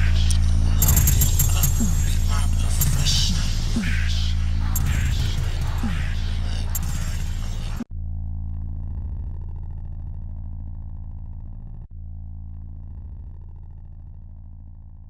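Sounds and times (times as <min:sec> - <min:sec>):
low deep drone: 0:00.0 - 0:15.0.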